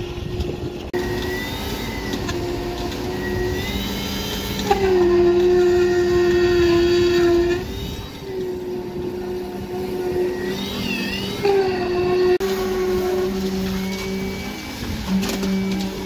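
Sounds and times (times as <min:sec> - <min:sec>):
concrete machinery engine whine: 0:00.0 - 0:16.0.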